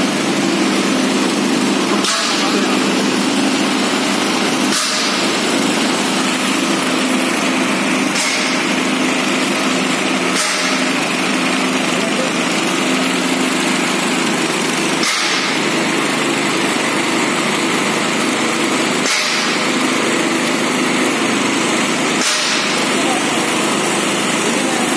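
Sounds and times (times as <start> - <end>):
conveyor motor humming: 0.0 - 24.9.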